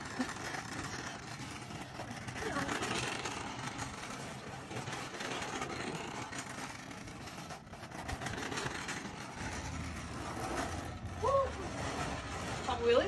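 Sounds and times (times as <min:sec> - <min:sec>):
wheels rolling on concrete: 0:00.0 - 0:13.0.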